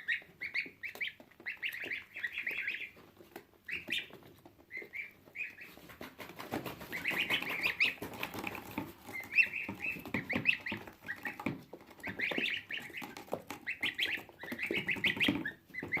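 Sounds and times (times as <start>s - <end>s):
gosling peeping: 0.0s - 16.0s.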